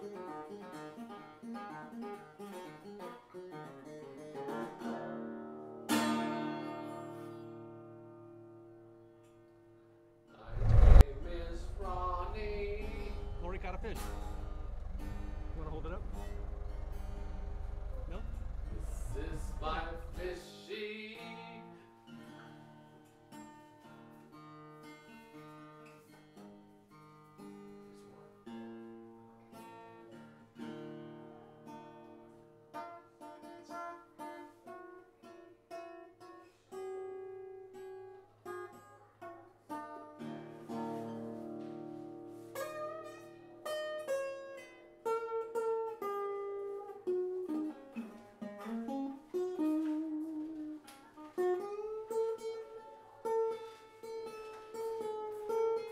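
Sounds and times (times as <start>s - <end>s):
solo acoustic guitar: 0.0s - 55.9s.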